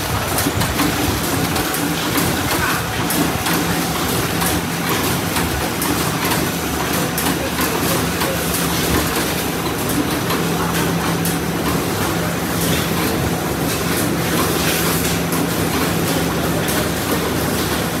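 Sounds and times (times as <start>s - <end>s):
packing machines humming: 0.0s - 18.0s
rapid machine clicking and clatter: 0.0s - 18.0s.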